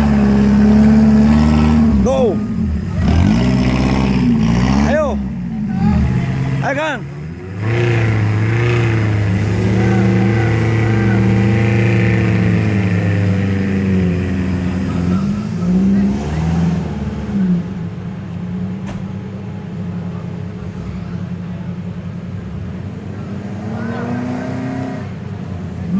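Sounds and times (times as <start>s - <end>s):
car engine revving off-road: 0.0s - 25.9s.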